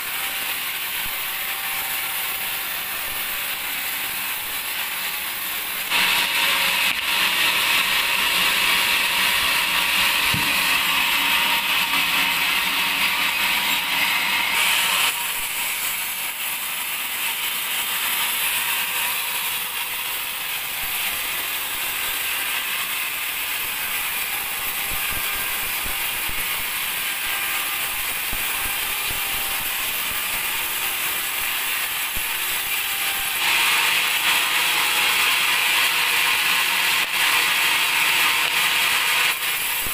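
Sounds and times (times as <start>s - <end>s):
band saw cutting a log: 0.0s - 39.9s.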